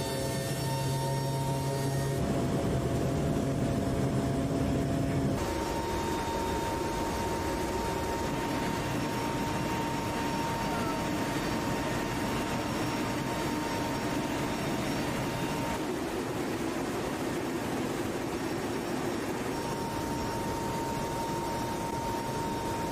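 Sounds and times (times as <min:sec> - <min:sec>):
thin steady whine: 0:00.0 - 0:22.9
turboprop engine noise: 0:00.0 - 0:22.9.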